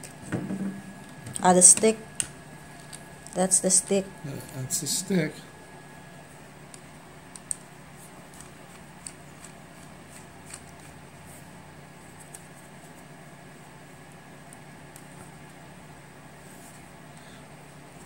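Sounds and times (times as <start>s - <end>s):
low room tone hum: 0.0s - 18.0s.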